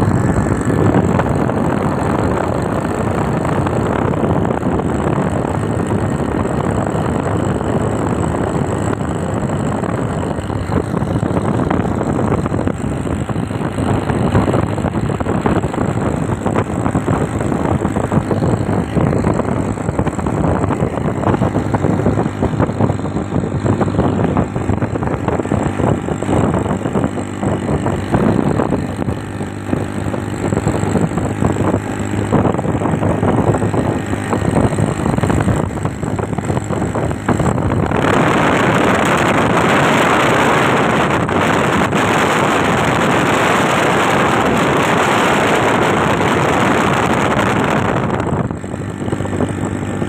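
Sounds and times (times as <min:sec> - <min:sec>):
motorcycle engine running: 0:00.0 - 0:50.0
wind noise on microphone: 0:00.0 - 0:50.0.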